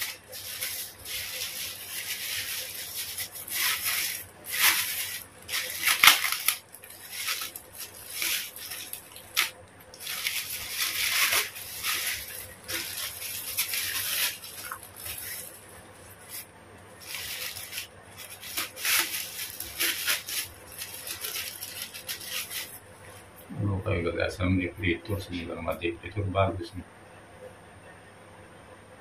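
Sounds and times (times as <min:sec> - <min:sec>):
plastic wrapping crinkling: 0:00.0 - 0:23.4.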